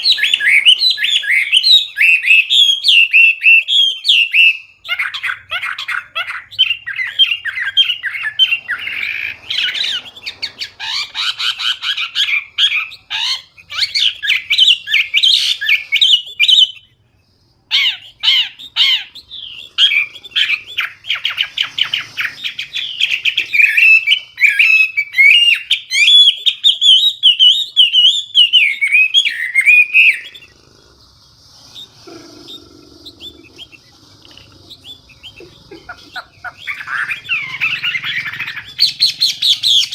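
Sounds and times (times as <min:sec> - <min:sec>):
bird singing whistles and trills: 0:00.0 - 0:17.0, 0:17.7 - 0:30.6, 0:31.7 - 0:39.9.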